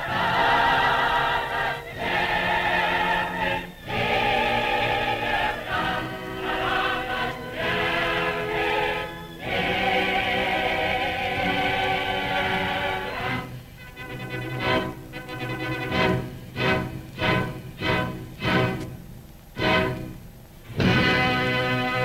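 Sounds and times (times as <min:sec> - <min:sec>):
muffled choir singing: 0:00.0 - 0:18.9, 0:20.7 - 0:22.0.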